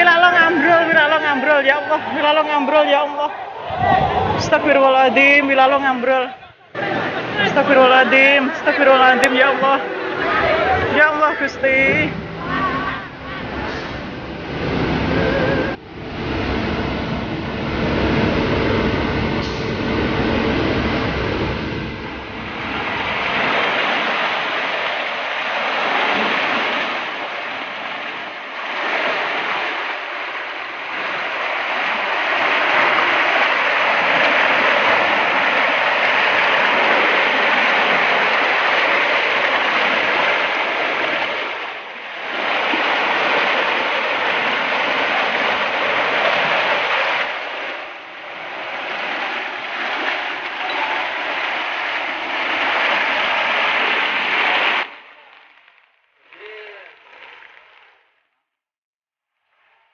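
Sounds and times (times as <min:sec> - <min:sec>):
heavy floodwater rushing: 0:00.0 - 0:58.0.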